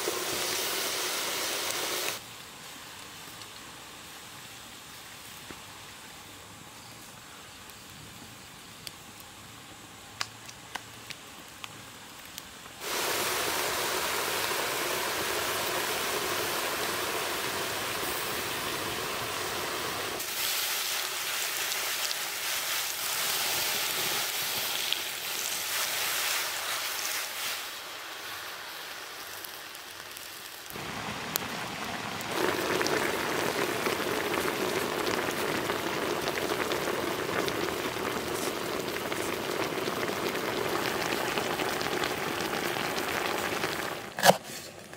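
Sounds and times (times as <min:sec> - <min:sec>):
food sizzling in wok: 0:00.0 - 0:05.4, 0:12.8 - 0:44.5
faint fire crackles: 0:00.0 - 0:44.9.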